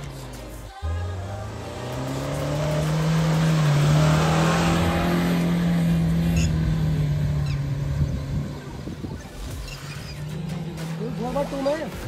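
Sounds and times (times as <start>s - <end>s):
car engine revving hard: 0.8s - 12.0s.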